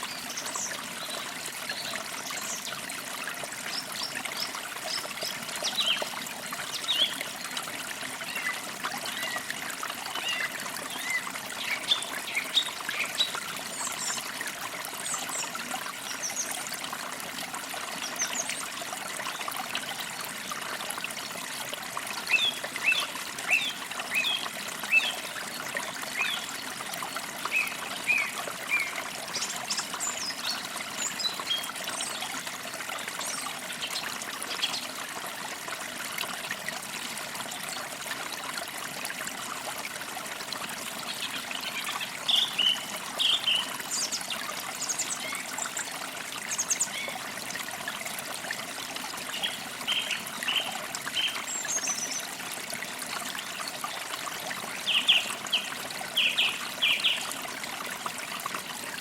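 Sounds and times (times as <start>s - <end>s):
creek splashing over stones: 0.0s - 59.0s.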